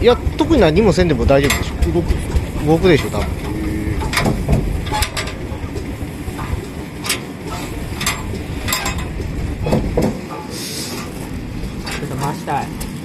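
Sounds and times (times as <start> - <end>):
sharp pops or clanks: 0.0 - 12.2
stationary engines running: 0.0 - 13.0.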